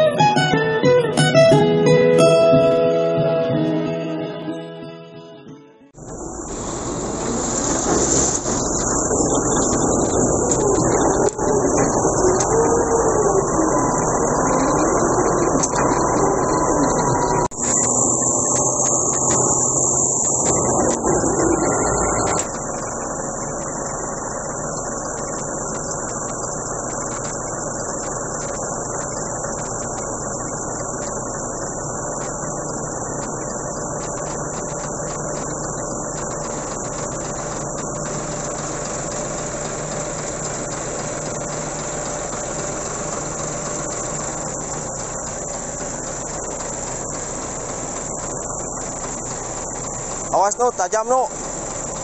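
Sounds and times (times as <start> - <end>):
engine idling: 6.0 - 52.0.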